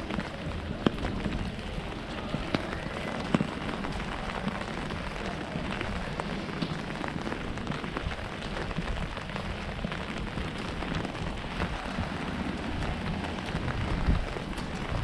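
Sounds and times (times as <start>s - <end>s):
rain on a wet street: 0.0s - 15.0s.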